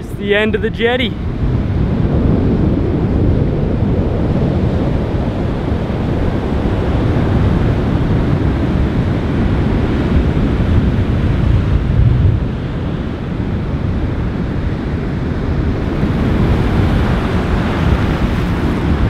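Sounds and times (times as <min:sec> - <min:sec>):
ocean surf rushing: 0:00.0 - 0:19.0
wind buffeting microphone: 0:00.0 - 0:19.0.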